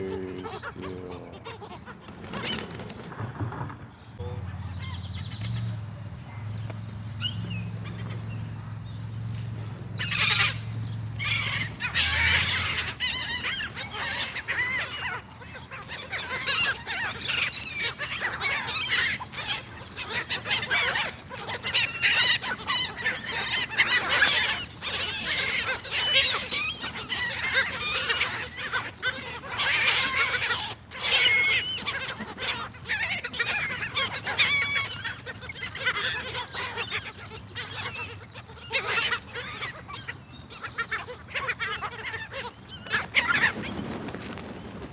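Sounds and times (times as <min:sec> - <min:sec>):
seagulls squawking: 0:00.0 - 0:44.1.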